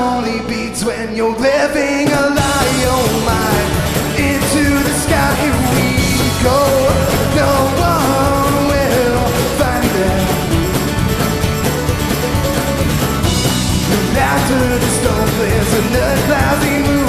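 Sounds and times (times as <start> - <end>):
live rock band playing: 2.0 - 17.0.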